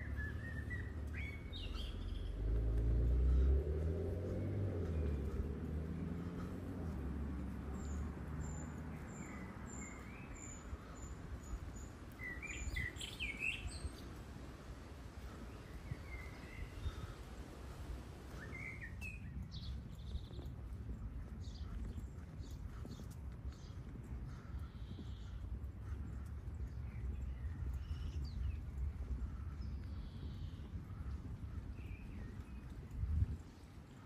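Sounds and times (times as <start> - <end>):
small birds calling: 0.0 - 3.6, 4.3 - 14.3, 15.2 - 17.4, 18.3 - 34.0
traffic rumble: 0.0 - 34.0.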